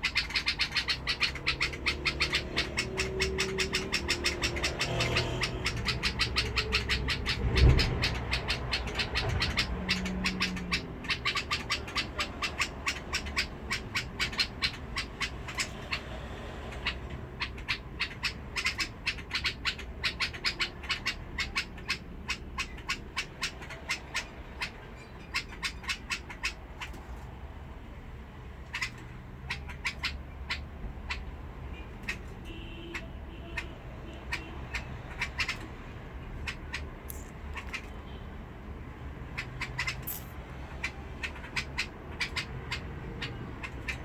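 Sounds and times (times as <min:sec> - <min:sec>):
bird calling harsh notes: 0:00.0 - 0:26.8, 0:32.0 - 0:38.2, 0:39.2 - 0:44.0.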